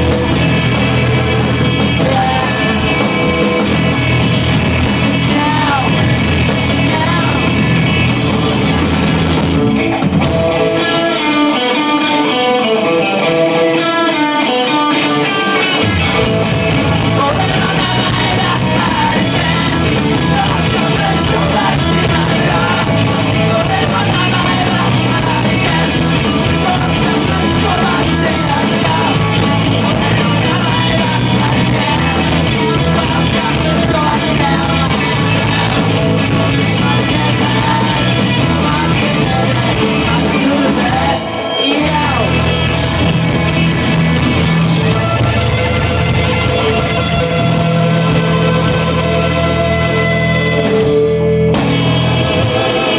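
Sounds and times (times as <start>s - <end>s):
rock band playing: 0.0s - 52.9s.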